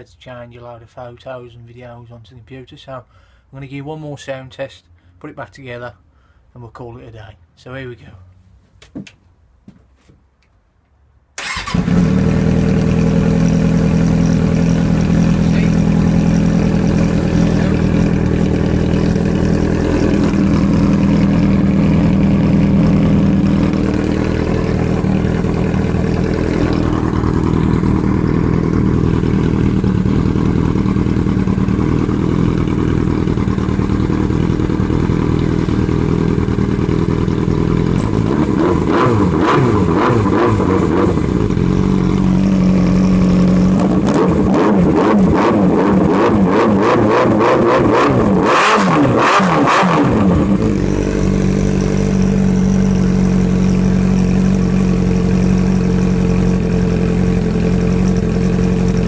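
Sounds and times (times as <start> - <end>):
motorcycle engine with straight pipe: 11.4 - 59.0.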